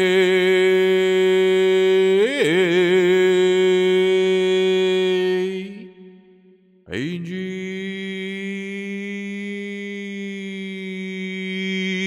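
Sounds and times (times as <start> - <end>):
man chanting a long tone: 0.0 - 6.3, 6.9 - 12.0.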